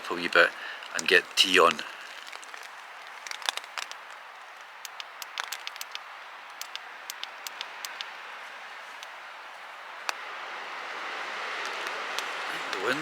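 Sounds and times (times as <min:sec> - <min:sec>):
raindrops tapping close by: 0:00.0 - 0:13.0
steady rain hiss: 0:00.0 - 0:13.0.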